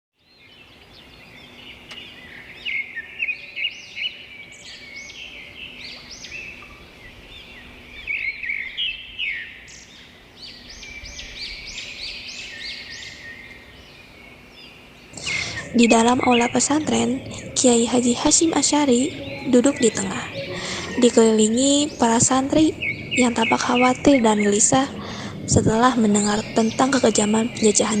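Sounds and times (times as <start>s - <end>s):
songbirds chirping: 0.2s - 28.0s
faint steady hum: 3.4s - 28.0s.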